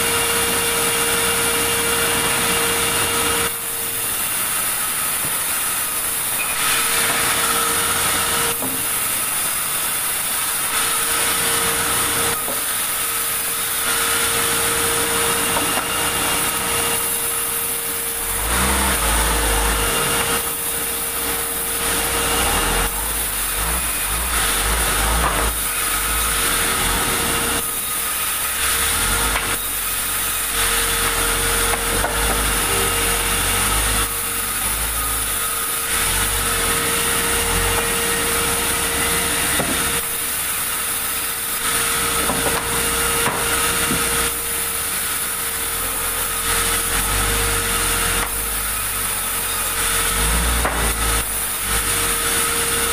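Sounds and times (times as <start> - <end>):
sawmill saw cutting log: 0.0 - 52.9.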